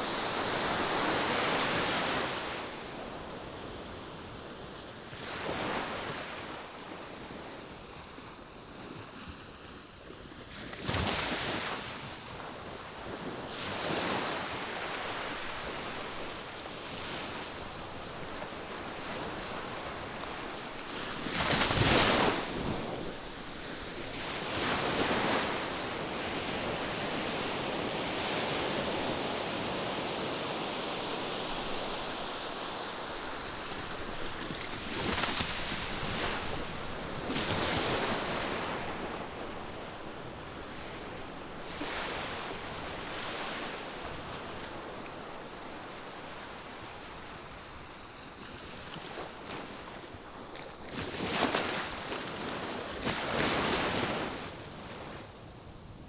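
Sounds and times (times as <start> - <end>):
ocean waves breaking on shore: 10.8 - 56.0.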